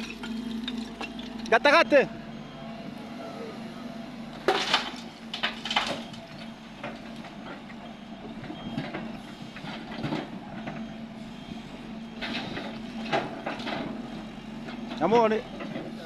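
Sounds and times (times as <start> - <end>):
excavator diesel hum: 0.0 - 16.0.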